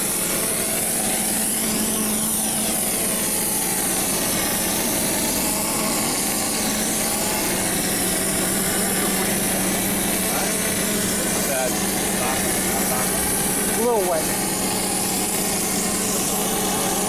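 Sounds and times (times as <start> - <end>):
machine hum: 0.0 - 17.0
spray gun hissing: 0.0 - 17.0.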